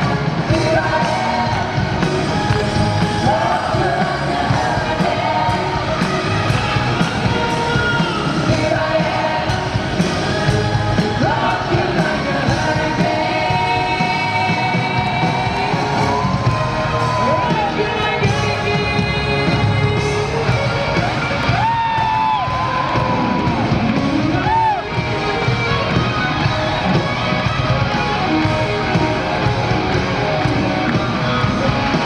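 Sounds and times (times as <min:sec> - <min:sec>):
rock band with orchestra: 0:00.0 - 0:32.0
steady drum beat: 0:00.0 - 0:32.0.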